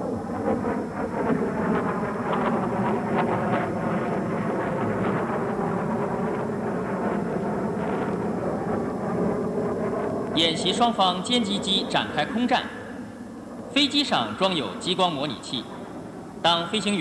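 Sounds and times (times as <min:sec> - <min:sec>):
jet fighter engine rush: 0:00.0 - 0:17.0.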